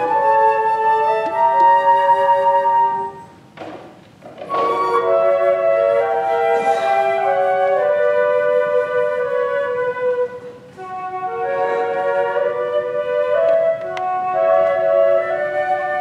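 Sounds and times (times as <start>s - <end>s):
two flutes playing in harmony: 0.0s - 3.4s, 4.4s - 16.0s.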